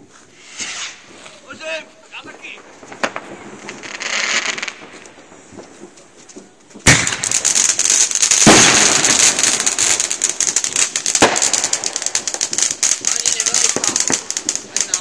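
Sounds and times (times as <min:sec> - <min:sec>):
crackle and hiss of sparks: 0:00.0 - 0:15.0
firework pops: 0:00.2 - 0:15.0
firework bang: 0:02.2 - 0:15.0.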